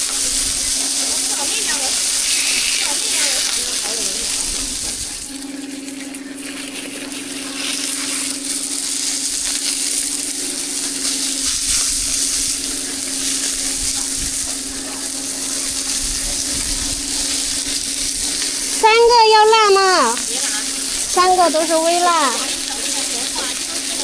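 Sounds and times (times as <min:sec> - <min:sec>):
food frying sizzle: 0:00.0 - 0:24.0.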